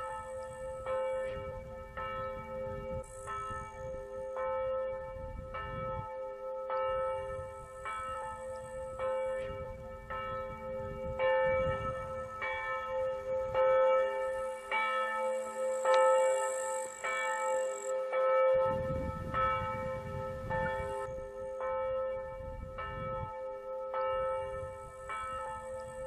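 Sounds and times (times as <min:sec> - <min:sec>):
church bells ringing: 0:00.0 - 0:26.0.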